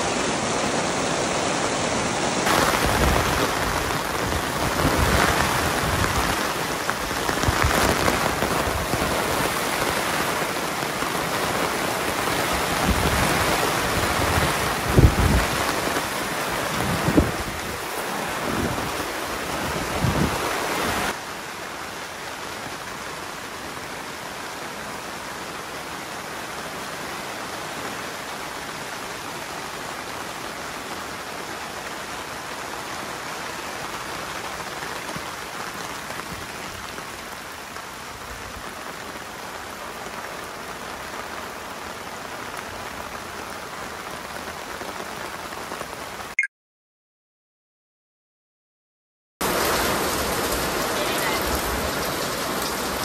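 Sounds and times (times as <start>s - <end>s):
heavy rain on tent fabric: 0.0s - 46.4s, 49.4s - 53.0s.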